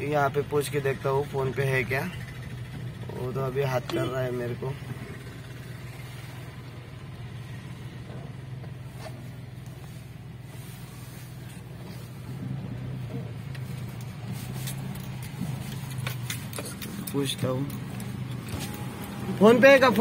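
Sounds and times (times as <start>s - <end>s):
car engine humming: 0.0s - 20.0s
light road noise: 0.0s - 20.0s.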